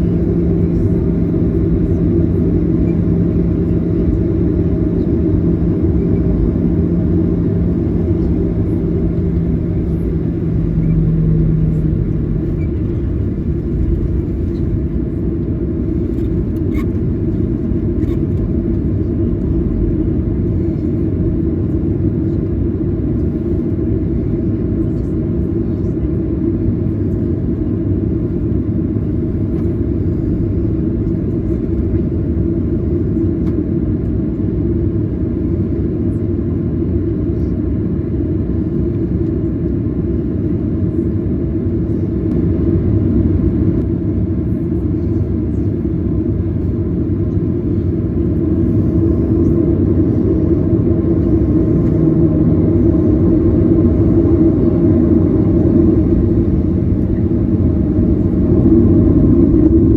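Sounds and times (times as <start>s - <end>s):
aircraft cabin jet engine rumble: 0.0s - 59.9s.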